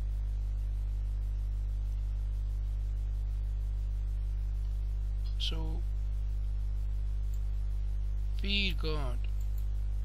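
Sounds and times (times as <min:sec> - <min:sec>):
low electrical mains hum: 0:00.0 - 0:10.0.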